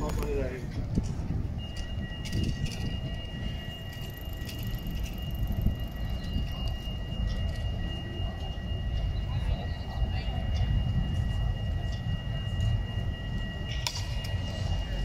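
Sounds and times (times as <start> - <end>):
tram rumble: 0.0 - 15.0
high two-note whine: 1.6 - 15.0.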